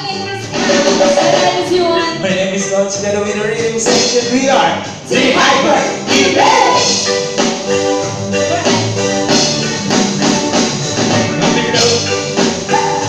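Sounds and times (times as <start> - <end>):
drum kit beat: 0.0 - 13.0
live band music: 0.0 - 13.0.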